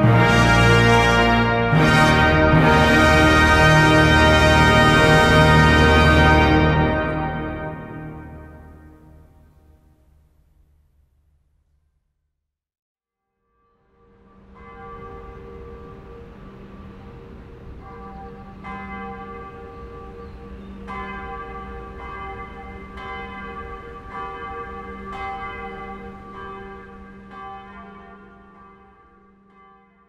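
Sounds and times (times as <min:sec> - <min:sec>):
church bells tolling: 0:00.0 - 0:09.8, 0:13.9 - 0:30.0.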